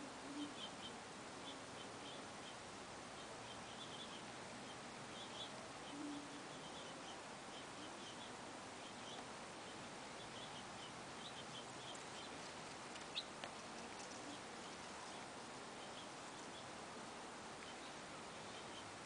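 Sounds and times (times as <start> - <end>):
distant birds chirping: 0.0 - 19.0
steady hiss: 0.0 - 19.0.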